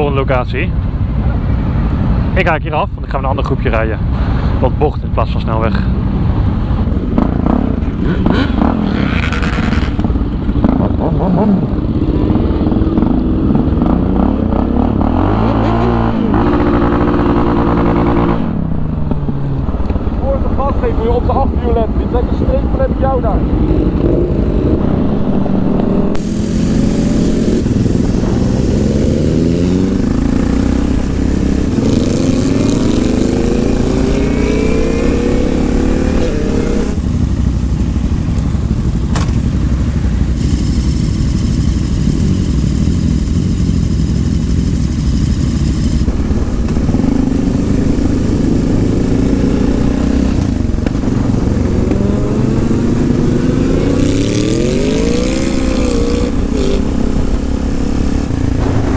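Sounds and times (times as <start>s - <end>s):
motorcycle engine accelerating: 5.5s - 58.9s.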